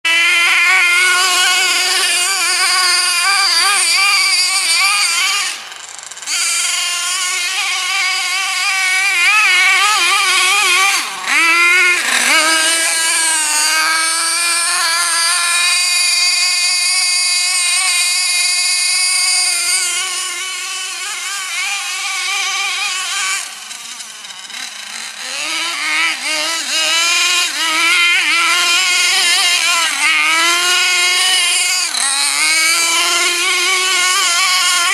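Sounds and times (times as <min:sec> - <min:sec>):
model truck engine revving: 0:00.0 - 0:34.9.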